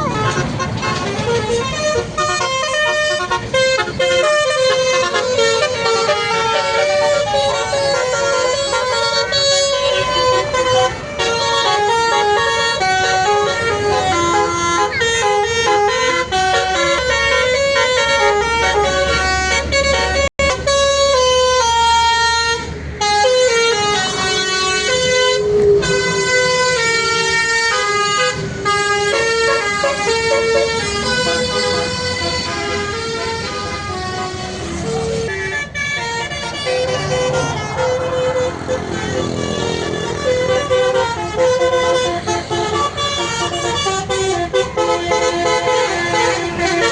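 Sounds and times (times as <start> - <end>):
musical air horn tune: 0.0 - 46.9.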